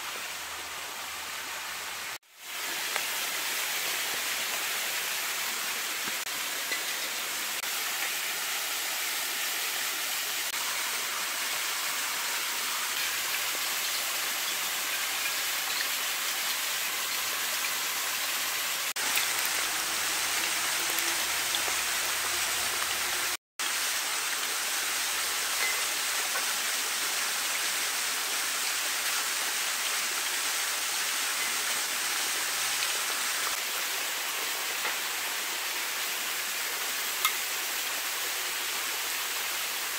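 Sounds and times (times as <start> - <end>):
potatoes sizzling in hot oil: 0.0 - 39.9
small waterfall rushing: 0.0 - 39.9.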